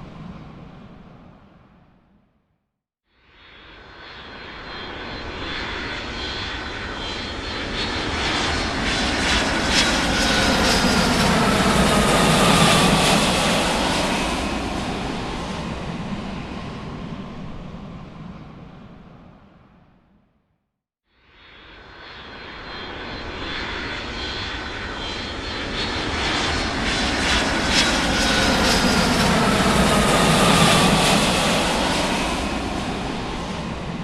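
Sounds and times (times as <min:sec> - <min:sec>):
aircraft flying by: 0:00.0 - 0:02.3, 0:03.4 - 0:20.3, 0:21.4 - 0:34.0.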